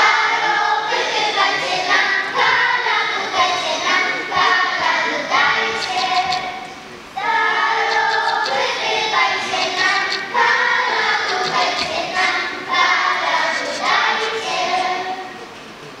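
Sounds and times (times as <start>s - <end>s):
children's choir singing carol: 0.0s - 16.0s.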